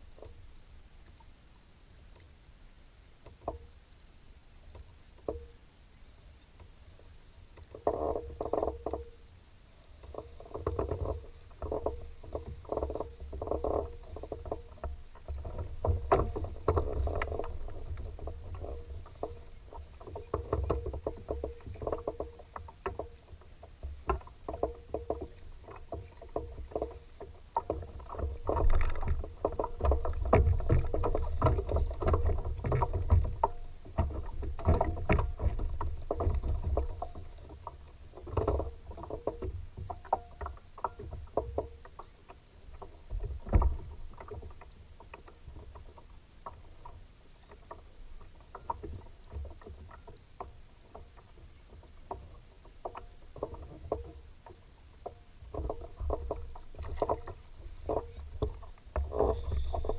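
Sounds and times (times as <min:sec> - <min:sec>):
low rumble of water: 0:00.0 - 0:59.9
knocks and clicks against kayak hull: 0:03.2 - 0:03.8, 0:04.7 - 0:05.6, 0:07.5 - 0:09.2, 0:10.0 - 0:59.9.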